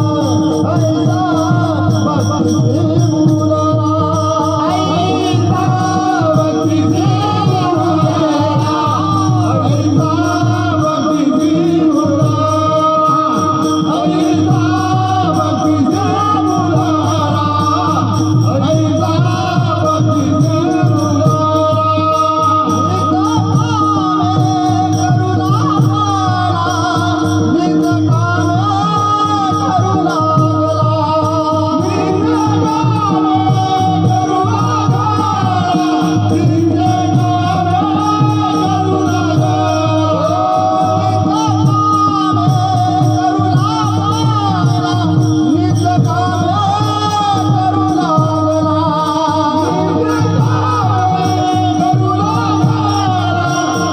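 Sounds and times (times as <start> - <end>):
fast rhythmic percussion: 0.0 - 53.9
steady held drone: 0.0 - 53.9
voices singing: 0.0 - 53.9.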